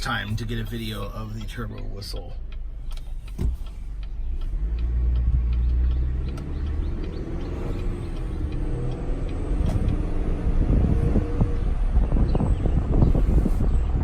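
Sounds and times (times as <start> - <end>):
truck engine low rumble: 0.0 - 14.0.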